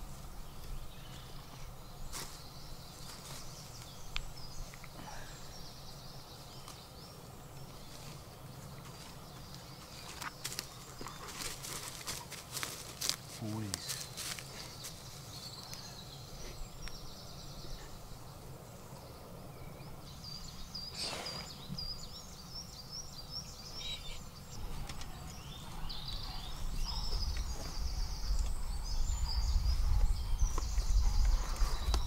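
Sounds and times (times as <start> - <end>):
songbirds chirping and trilling: 0.0 - 32.0.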